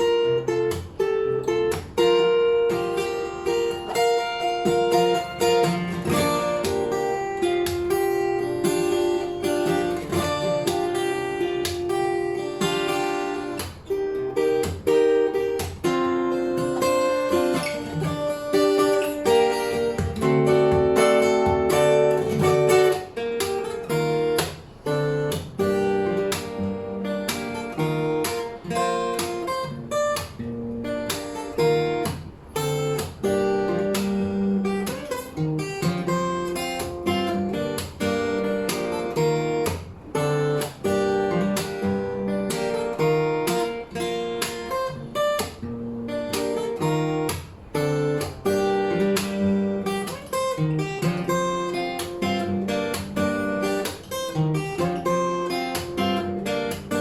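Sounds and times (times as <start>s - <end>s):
fingerstyle acoustic guitar: 0.0s - 57.0s.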